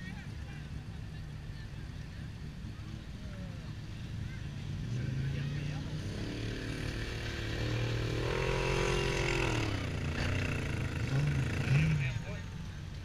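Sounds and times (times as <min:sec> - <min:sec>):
buggy engine revving: 0:02.6 - 0:13.0.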